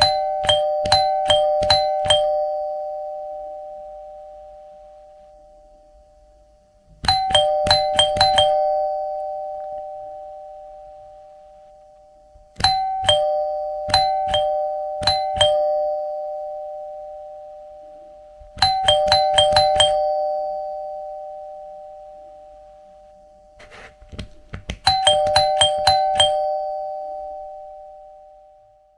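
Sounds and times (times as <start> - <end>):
doorbell chime: 0.0 - 5.0, 7.0 - 11.9, 12.6 - 23.6, 24.8 - 28.9.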